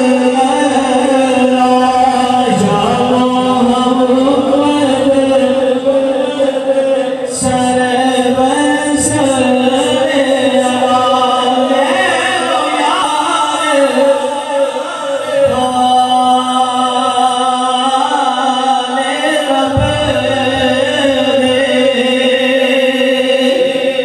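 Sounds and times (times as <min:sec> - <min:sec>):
man chanting into microphone: 0:00.0 - 0:24.0.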